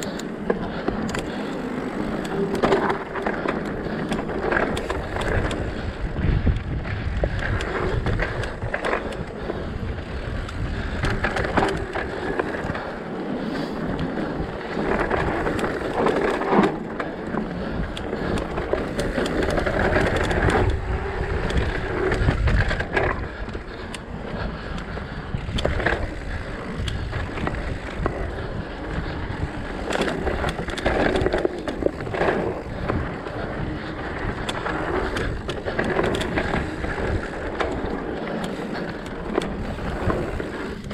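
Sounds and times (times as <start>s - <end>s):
bike rattling over bumps: 0.0s - 40.9s
bike tyres crunching over dirt: 0.0s - 40.9s
wind buffeting microphone: 0.0s - 40.9s.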